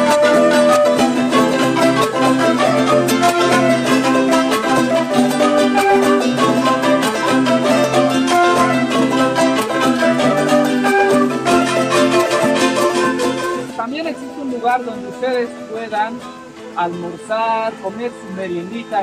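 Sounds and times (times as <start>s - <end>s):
plucked-string tune: 0.0s - 19.0s.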